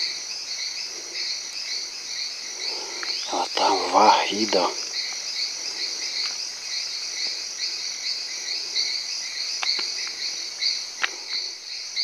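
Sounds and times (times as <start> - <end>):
insects chirping in chorus: 0.0 - 12.0.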